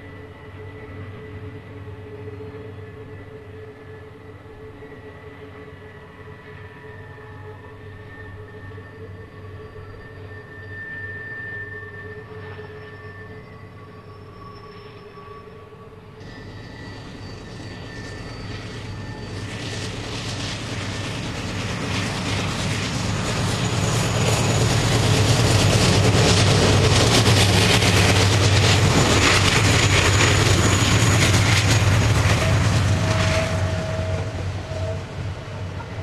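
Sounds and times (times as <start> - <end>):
locomotive engines droning: 0.0 - 36.0.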